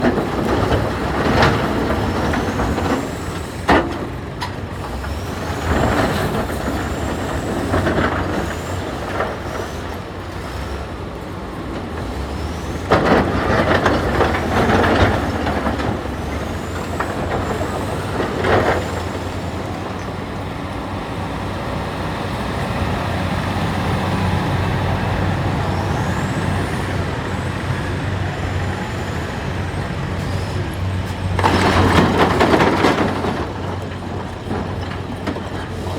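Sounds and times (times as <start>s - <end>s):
heavy diesel machine running: 0.0s - 35.9s.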